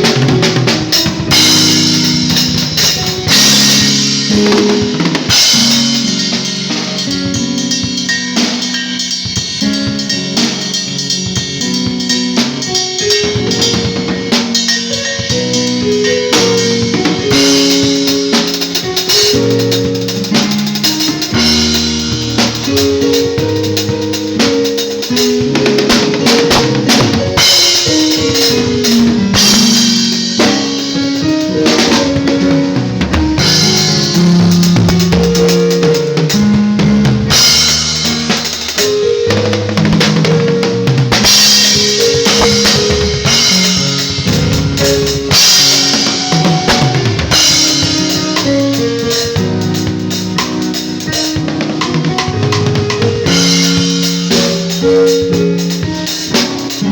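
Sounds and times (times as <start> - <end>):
drum kit playing: 0.0 - 56.9.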